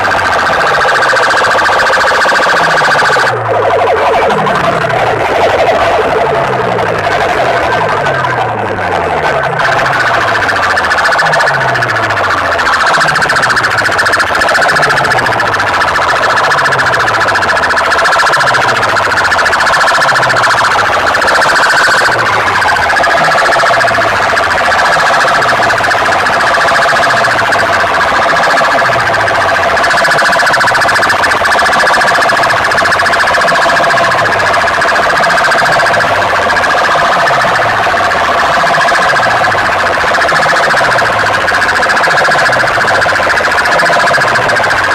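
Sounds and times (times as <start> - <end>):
siren-like electronic tones: 0.0 - 44.9.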